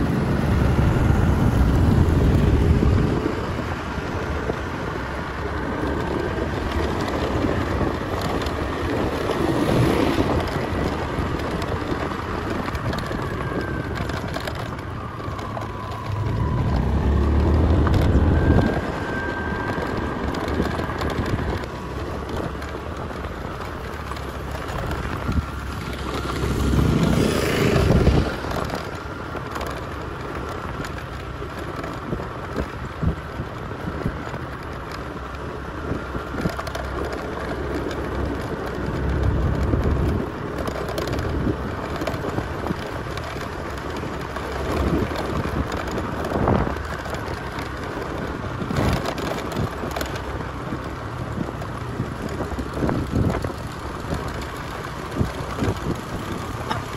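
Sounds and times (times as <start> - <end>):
motorcycle engine rumble: 0.0 - 56.9
wind buffeting microphone: 0.0 - 56.9.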